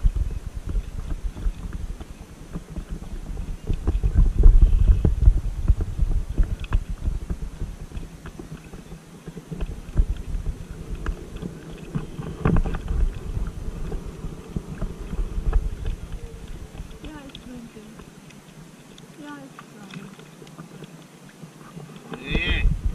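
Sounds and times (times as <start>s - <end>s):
wind buffeting microphone: 0.0s - 22.9s
paddle splashing water: 0.1s - 22.9s.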